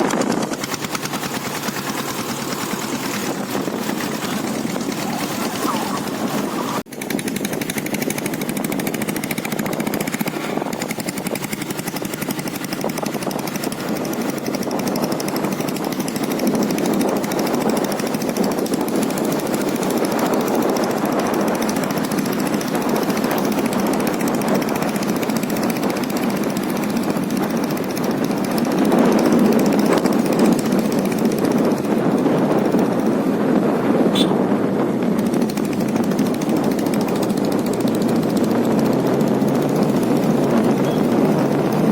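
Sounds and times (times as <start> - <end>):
diesel engine knocking: 0.0 - 34.0, 34.8 - 41.9.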